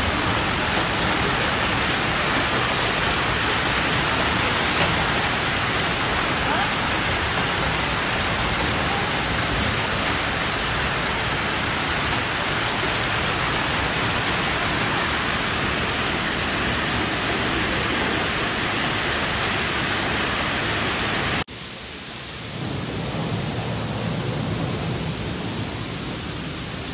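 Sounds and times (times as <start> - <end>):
hail and rain pelting down: 0.0 - 26.9.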